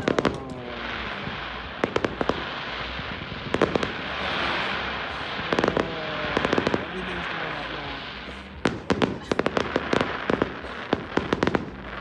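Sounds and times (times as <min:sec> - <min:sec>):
distant fireworks bursts: 0:00.0 - 0:12.0
fireworks sharp cracks: 0:00.0 - 0:12.0.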